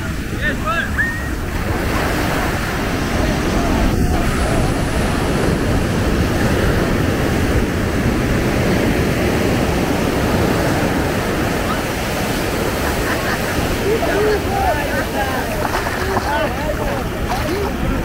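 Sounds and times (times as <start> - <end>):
ocean waves breaking on sand: 0.0 - 18.0.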